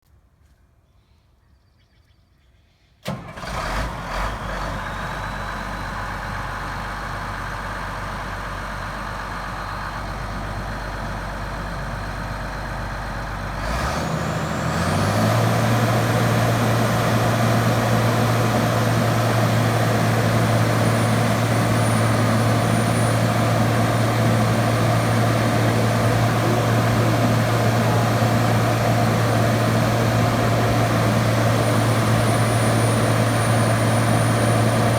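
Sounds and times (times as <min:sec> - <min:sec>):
diesel engine starting and idling: 0:03.0 - 0:34.9
diesel engine revving: 0:03.1 - 0:34.9.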